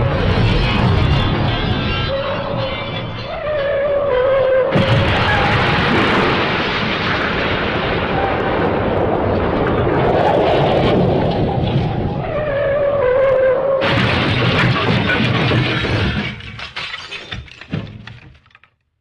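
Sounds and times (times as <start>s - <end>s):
heavy crashing rumble: 0.0s - 3.2s, 4.7s - 12.6s, 13.8s - 18.6s.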